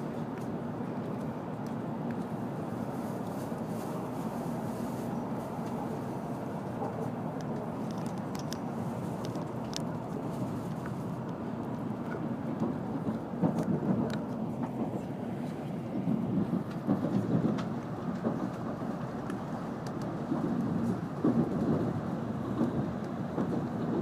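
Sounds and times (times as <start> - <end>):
train cabin rumble: 0.0 - 24.0.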